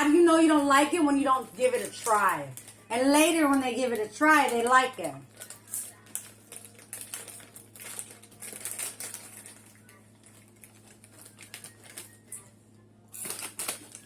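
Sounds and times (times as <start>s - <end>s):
snack bags crackling: 0.0s - 14.0s.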